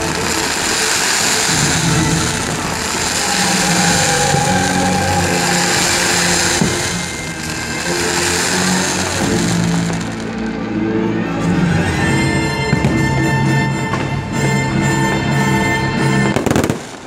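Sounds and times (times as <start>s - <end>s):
fountain fireworks hissing: 0.0s - 17.0s
sustained music tones: 0.0s - 17.0s.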